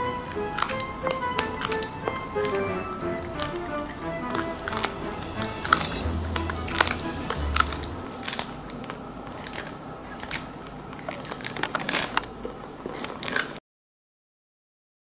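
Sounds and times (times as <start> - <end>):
dog chewing crunchy food: 0.0 - 13.6.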